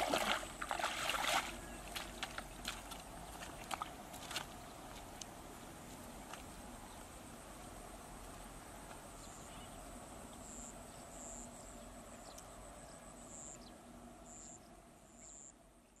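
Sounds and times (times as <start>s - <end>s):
high insect hum: 3.1s - 16.0s.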